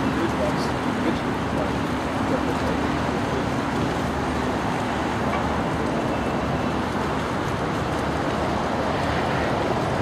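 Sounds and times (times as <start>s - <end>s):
city traffic noise: 0.0s - 10.0s.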